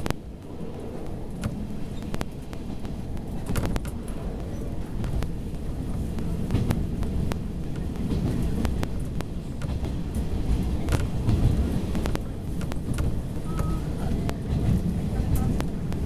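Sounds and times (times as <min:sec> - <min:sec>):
train engine rumble: 0:00.0 - 0:16.0
wheels clicking on track: 0:00.0 - 0:16.0.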